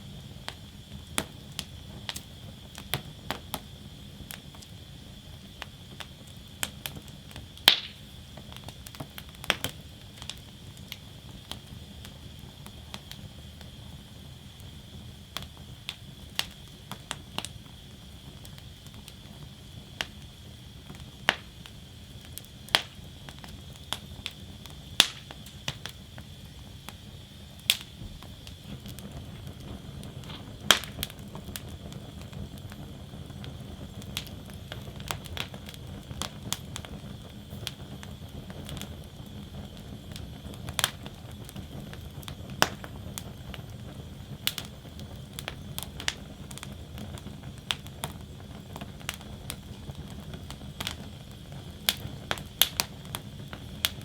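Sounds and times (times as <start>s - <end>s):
low rumble and hiss: 0.0s - 54.0s
wood fire crackling: 0.0s - 54.0s.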